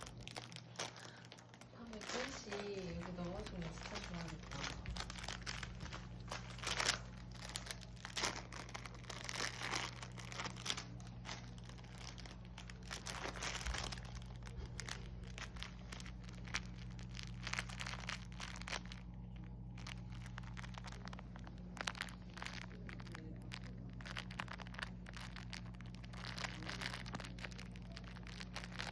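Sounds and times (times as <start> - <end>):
dog crunching potato chips: 0.0 - 28.9
low hum: 0.0 - 28.9.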